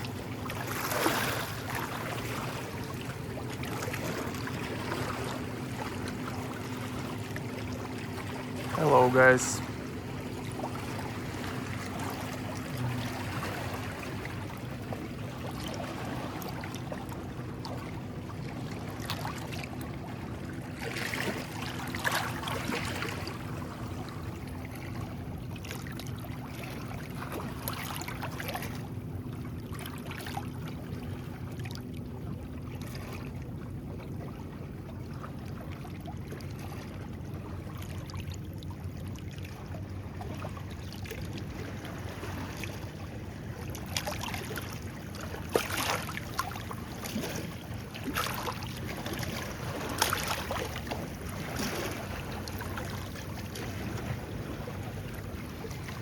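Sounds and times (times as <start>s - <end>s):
small waves lapping on shore: 0.0s - 56.0s.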